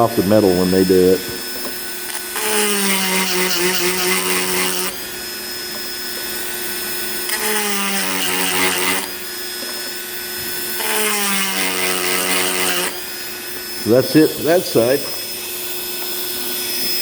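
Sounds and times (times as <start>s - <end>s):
rotary tool grinding metal: 0.0s - 17.0s.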